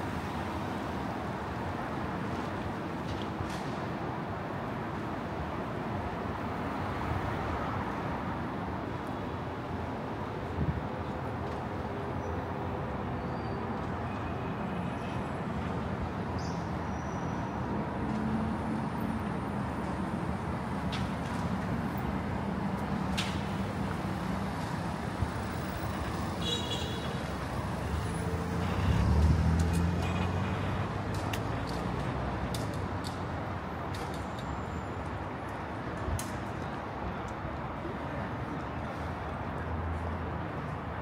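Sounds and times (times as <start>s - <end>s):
cars and buses passing: 0.0s - 41.0s.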